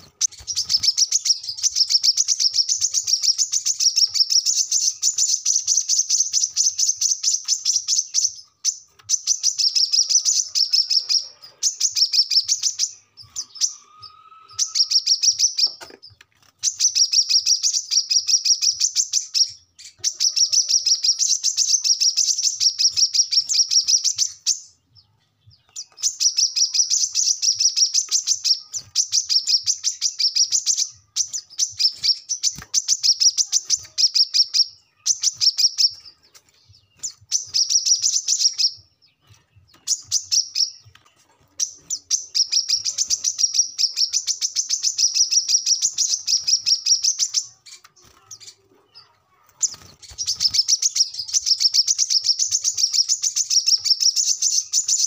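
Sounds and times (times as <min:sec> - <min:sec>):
bird singing rapid chattering notes: 0:00.0 - 0:55.0.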